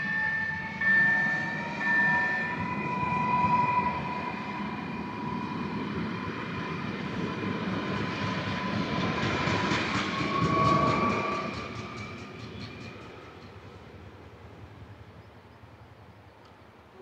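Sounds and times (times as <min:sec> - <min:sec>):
train wheels rumbling on rail: 0:00.0 - 0:16.8
electric train whine: 0:00.0 - 0:17.0.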